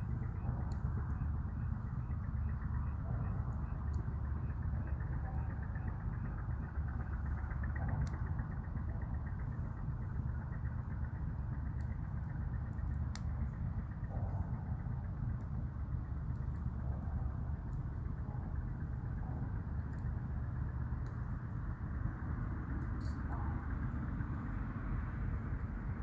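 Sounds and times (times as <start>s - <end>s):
fire crackles: 0.0s - 26.0s
wood fire rumbling: 0.0s - 26.0s.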